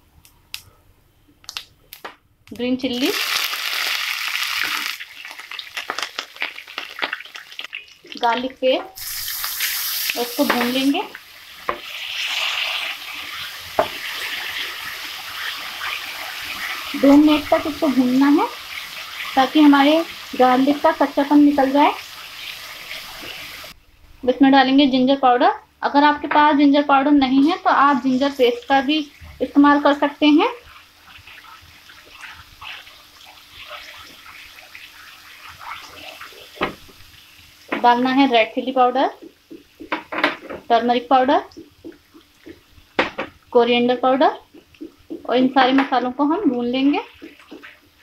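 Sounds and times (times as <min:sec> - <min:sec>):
food sizzling in hot oil: 0:02.9 - 0:23.8, 0:27.4 - 0:45.3, 0:46.2 - 0:48.0.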